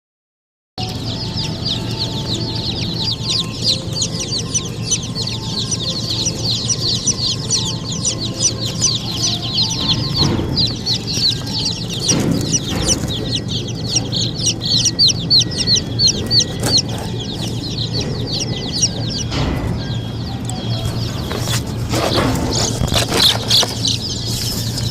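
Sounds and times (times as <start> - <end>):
baby chicks peeping: 0.8 - 24.9
low steady hum: 0.8 - 24.9.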